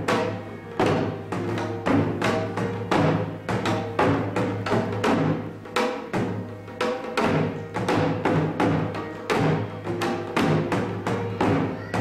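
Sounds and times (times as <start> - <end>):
drum beaten in brisk rhythm: 0.0 - 12.0.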